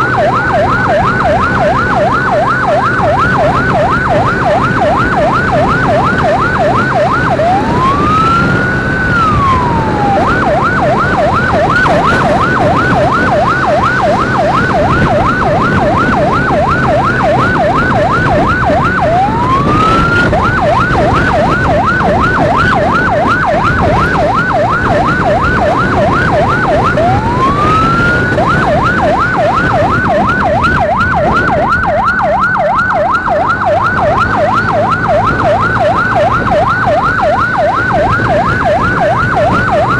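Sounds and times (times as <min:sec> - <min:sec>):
electronic siren yelping: 0:00.0 - 0:39.9
motorcycle engine humming: 0:00.0 - 0:39.9
siren rising wail: 0:00.0 - 0:39.9.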